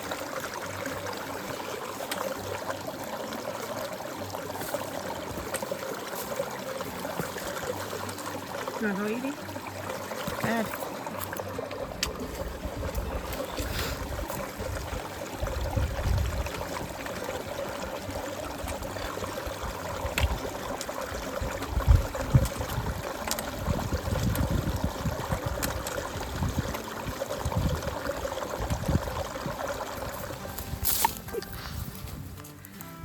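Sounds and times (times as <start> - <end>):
stream gurgling over rocks: 0.0 - 32.9.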